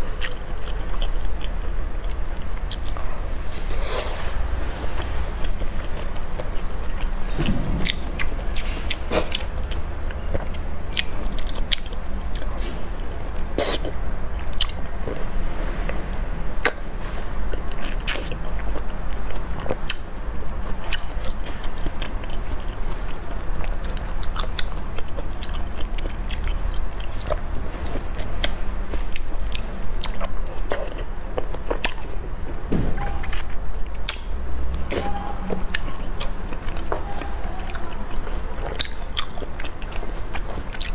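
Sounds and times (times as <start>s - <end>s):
crunchy chewing of onion: 0.0s - 16.0s, 16.6s - 32.6s, 33.2s - 40.9s
low hum: 0.0s - 40.9s.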